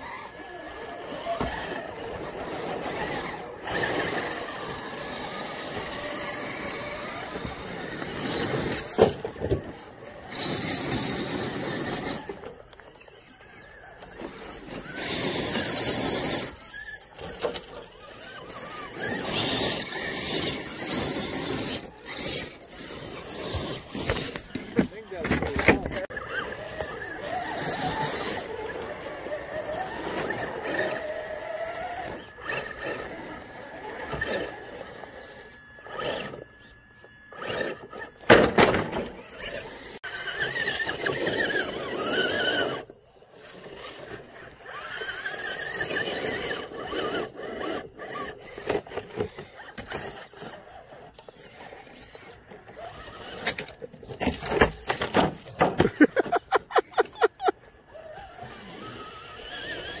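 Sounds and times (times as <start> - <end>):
electric motors whining: 0.0 - 60.0
tyres scraping on stone: 1.1 - 36.7, 37.4 - 60.0.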